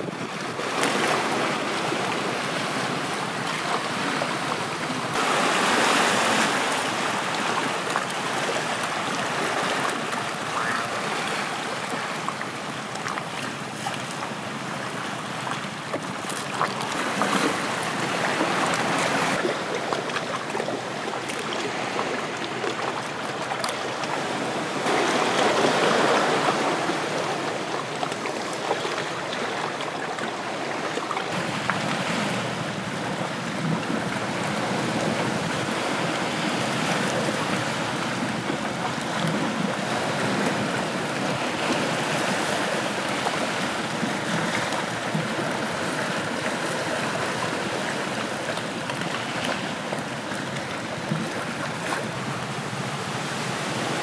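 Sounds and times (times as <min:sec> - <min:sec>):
waves splashing on rocks: 0:00.0 - 0:54.0.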